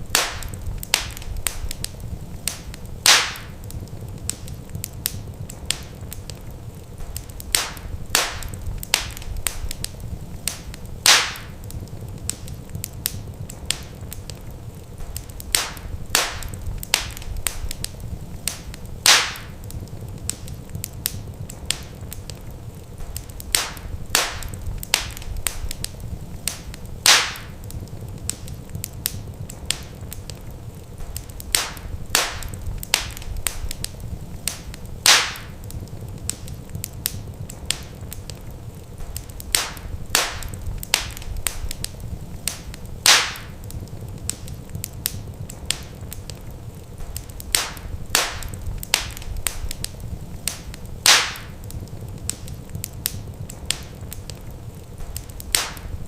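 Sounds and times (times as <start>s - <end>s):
fire popping and snapping: 0.0s - 56.0s
wood fire crackling: 0.0s - 56.0s.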